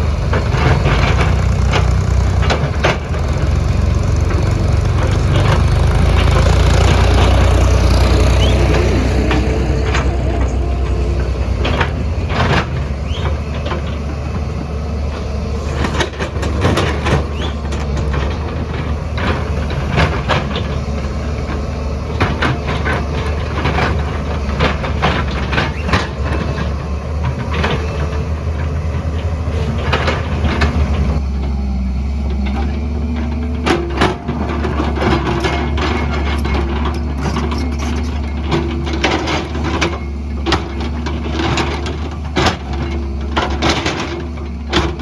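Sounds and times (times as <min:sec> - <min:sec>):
excavator diesel engine running: 0:00.0 - 0:45.0
digging knocks and clanks: 0:00.2 - 0:31.2, 0:32.3 - 0:45.0.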